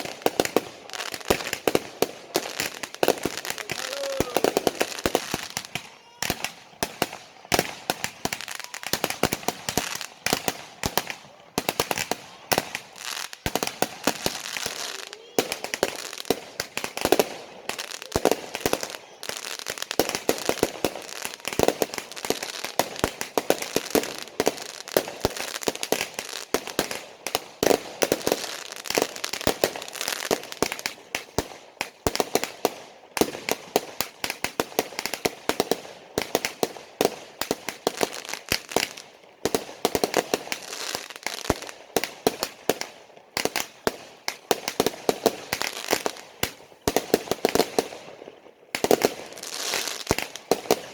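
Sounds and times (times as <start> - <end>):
fireworks cracking bangs: 0.0 - 50.9.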